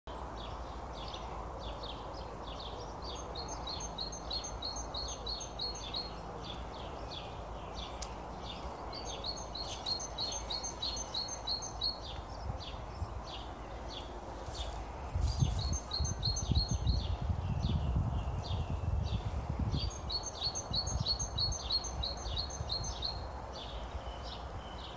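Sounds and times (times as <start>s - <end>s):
songbird chirping: 0.1s - 24.9s.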